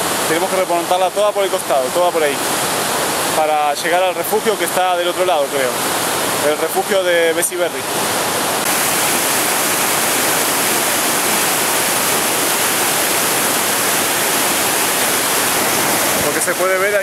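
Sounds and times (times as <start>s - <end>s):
waterfall rushing over boulders: 0.0s - 17.0s.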